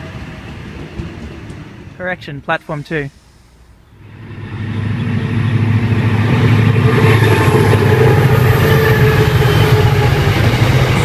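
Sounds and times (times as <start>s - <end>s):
diesel locomotive engines droning: 0.0s - 11.0s.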